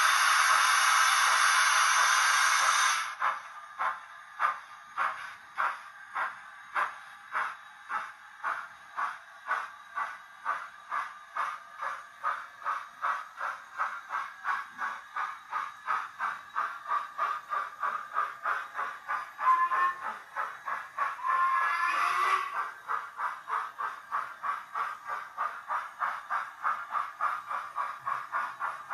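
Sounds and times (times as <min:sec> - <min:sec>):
model steam locomotive chuffs: 0:00.0 - 0:28.9.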